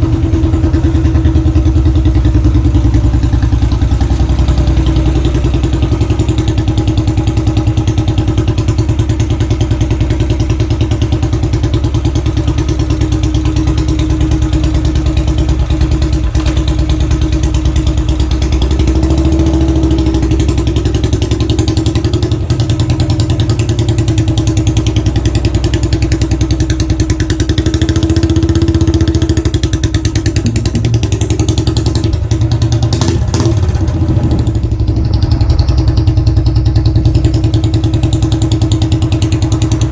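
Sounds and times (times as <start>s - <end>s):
motorcycle engine chuffing: 0.0s - 39.9s.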